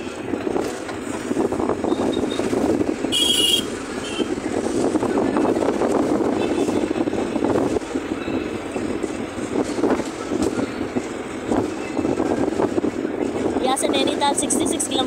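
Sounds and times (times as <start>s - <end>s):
rattling inside vehicle: 0.0s - 15.0s
vehicle engine and road noise: 0.0s - 15.0s.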